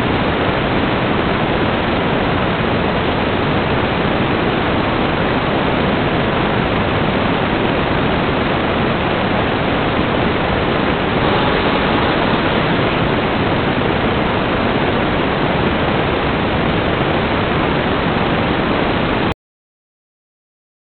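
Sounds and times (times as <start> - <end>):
tv static hiss: 0.0 - 19.3.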